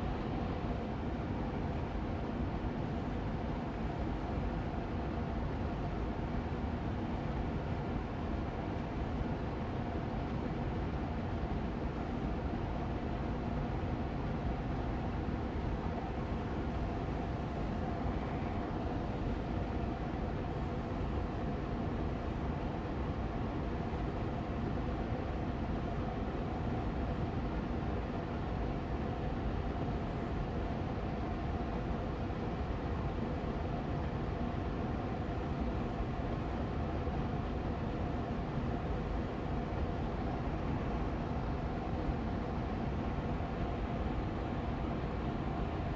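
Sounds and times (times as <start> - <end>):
air purifier fan humming: 0.0 - 45.9.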